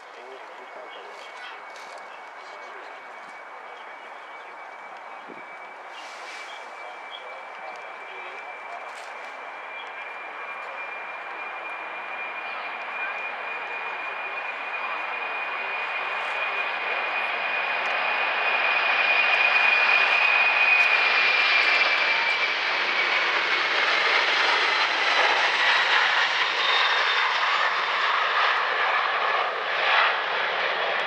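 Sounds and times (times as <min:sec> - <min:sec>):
high jet engine whine: 0:00.0 - 0:31.0
jet airliner taking off: 0:00.0 - 0:31.0.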